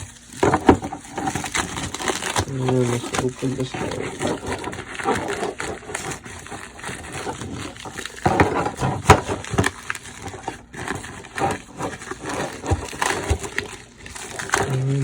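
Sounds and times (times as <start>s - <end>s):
packaging crinkling and rustling: 0.0s - 15.0s
packaging snaps and clicks: 0.1s - 15.0s.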